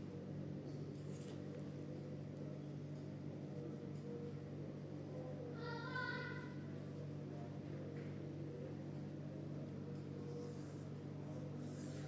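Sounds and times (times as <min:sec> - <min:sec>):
low hum with constant tones: 0:00.0 - 0:12.0.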